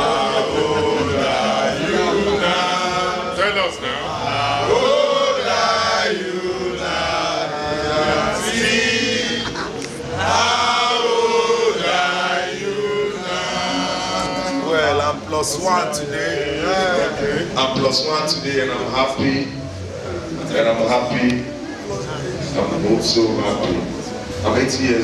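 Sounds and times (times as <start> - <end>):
group chanting and singing: 0.0 - 22.8.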